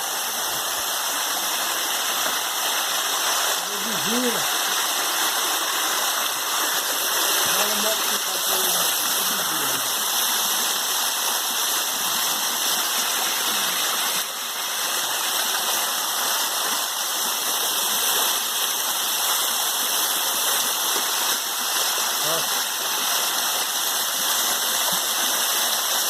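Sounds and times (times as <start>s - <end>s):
waterfall roaring: 0.0s - 19.2s, 20.9s - 23.8s.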